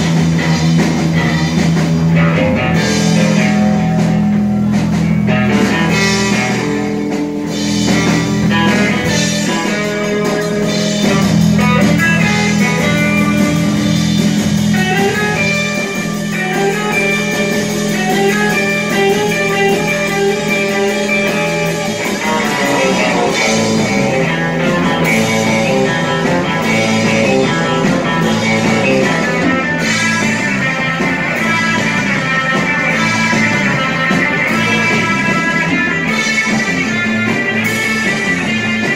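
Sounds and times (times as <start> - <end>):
drums: 0.0 - 38.9
electric guitar: 0.0 - 38.9.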